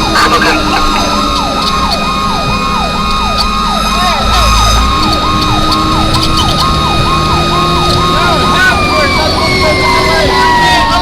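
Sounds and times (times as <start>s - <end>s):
siren yelping: 0.0s - 11.0s
steady high tone: 0.0s - 11.0s
truck rumble: 0.0s - 11.0s.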